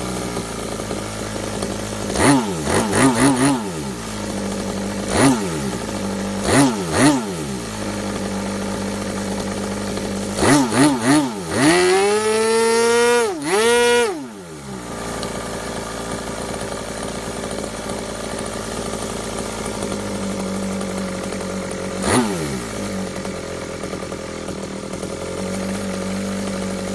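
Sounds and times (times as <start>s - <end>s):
model engine revving and idling: 0.0s - 26.9s.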